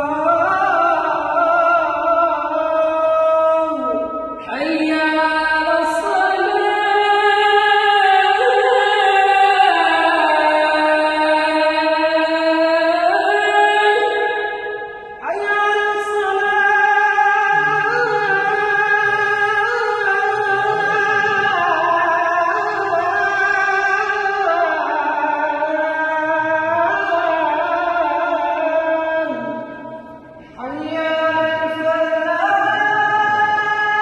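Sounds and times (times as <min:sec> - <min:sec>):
person chanting melismatically: 0:00.0 - 0:34.0.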